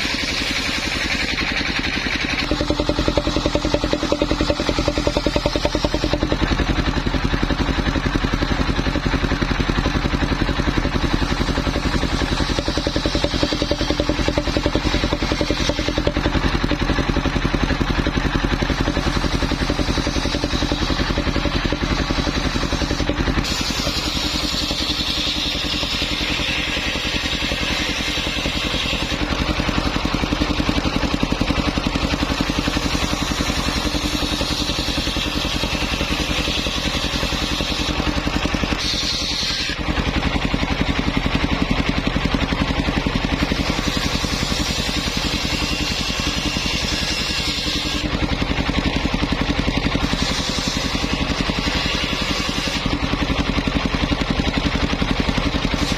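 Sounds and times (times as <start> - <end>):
saw blade cutting wood: 0.0 - 55.9
saw engine running: 0.0 - 55.9.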